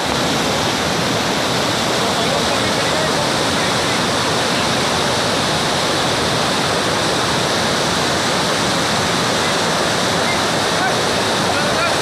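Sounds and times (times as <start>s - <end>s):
flooded stream rushing: 0.0s - 12.0s.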